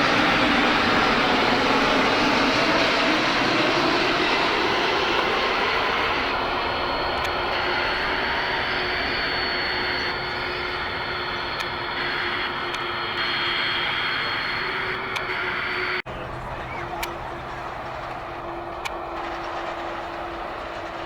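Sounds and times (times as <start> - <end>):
high engine whine: 0.0 - 21.0
jet engines roaring: 0.0 - 21.0.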